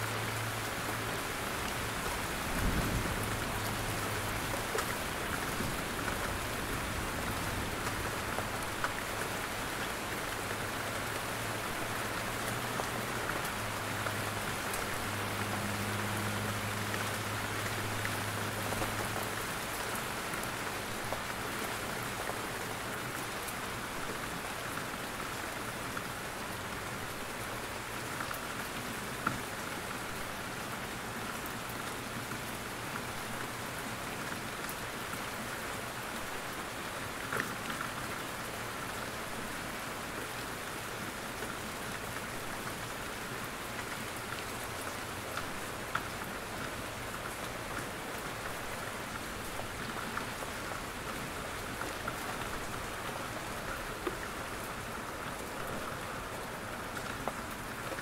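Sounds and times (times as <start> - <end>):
rain falling in forest: 0.0 - 58.0.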